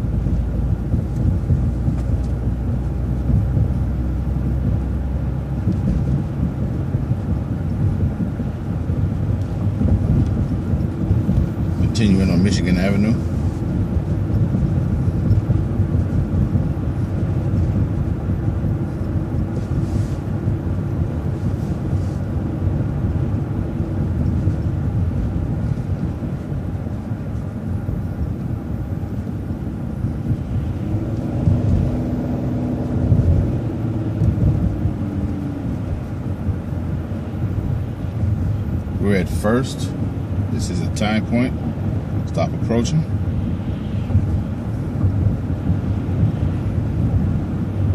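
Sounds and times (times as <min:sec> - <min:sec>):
bus engine and road rumble: 0:00.0 - 0:47.9.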